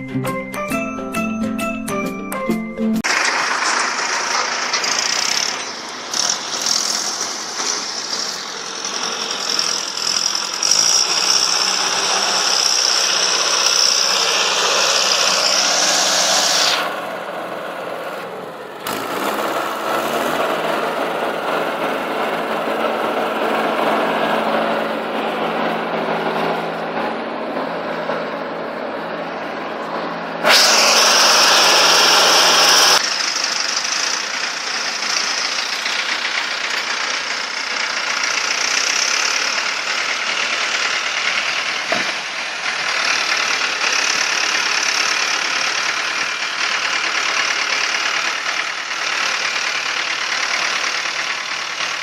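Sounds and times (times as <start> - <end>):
tractor diesel engine under load: 3.0 - 52.0.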